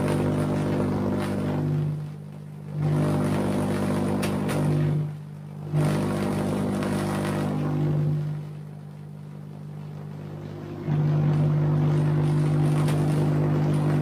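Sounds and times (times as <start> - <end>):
tesla coil deep buzz: 0.0 - 14.0.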